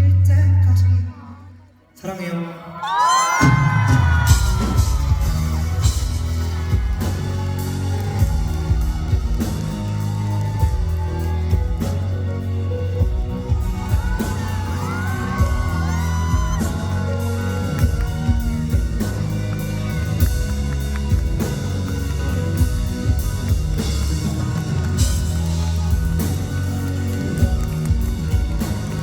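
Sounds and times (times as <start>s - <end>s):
audience whooping and yelling: 2.6s - 29.0s
live band music: 3.2s - 29.0s.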